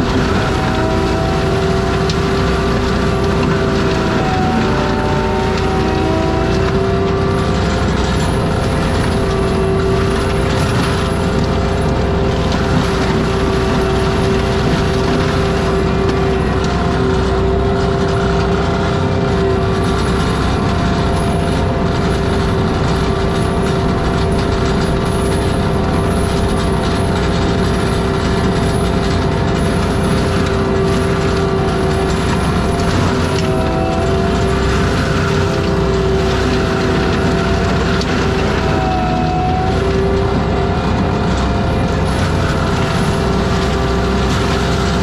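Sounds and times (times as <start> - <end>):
forestry mulcher running: 0.0 - 45.0.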